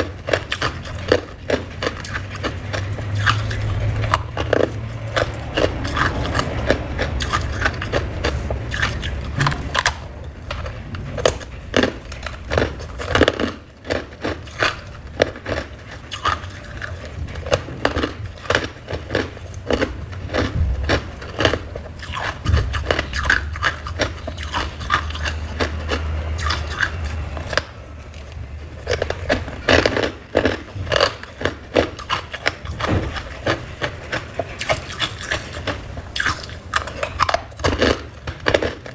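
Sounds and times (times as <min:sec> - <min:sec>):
frost being chewed crunching: 0:00.0 - 0:38.9.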